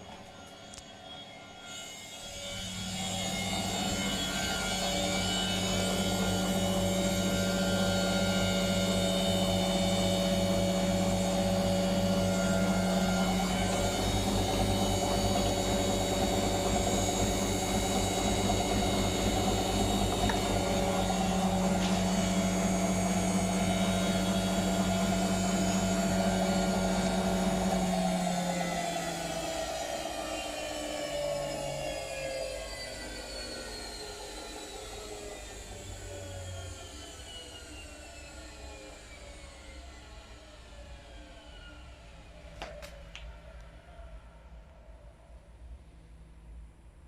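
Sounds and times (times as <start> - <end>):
washing machine spinning: 0.0 - 41.4.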